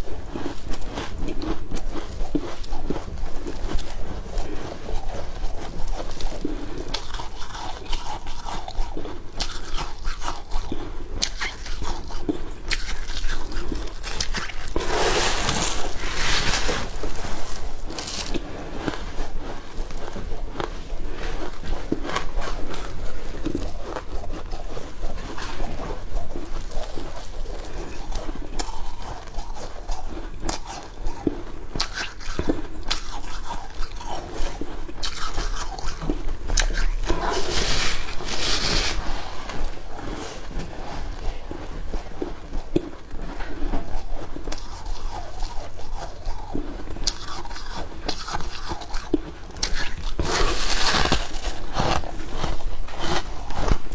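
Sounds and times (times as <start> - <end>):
crunching and chewing frost: 0.0 - 53.9.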